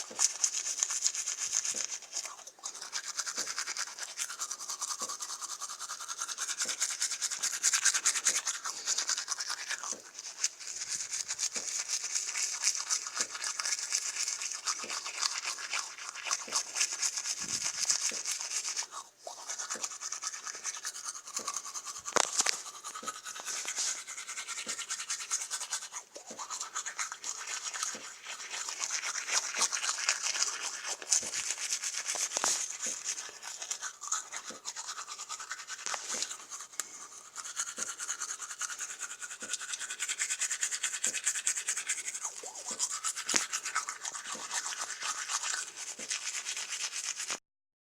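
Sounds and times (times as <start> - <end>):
toothbrush scrubbing teeth: 0.0 - 47.4.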